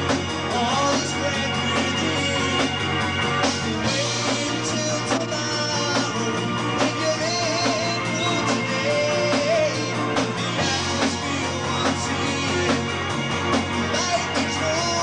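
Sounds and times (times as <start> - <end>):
drum kit beat: 0.0 - 15.0
held bass guitar line: 0.0 - 15.0.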